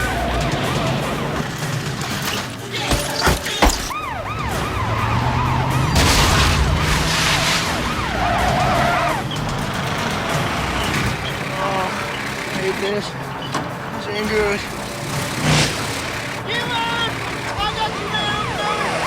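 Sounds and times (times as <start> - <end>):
car engine running: 0.0 - 19.0
police sirens yelping: 0.0 - 19.0
sharp bangs: 0.0 - 19.0.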